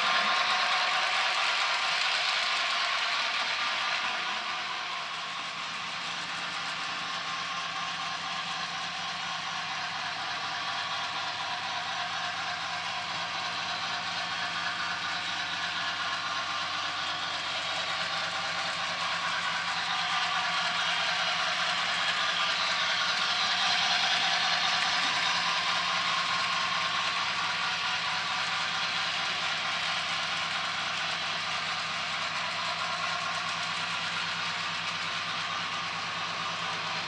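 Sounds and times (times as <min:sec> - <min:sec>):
model train whirring and rattling: 0:00.0 - 0:37.0.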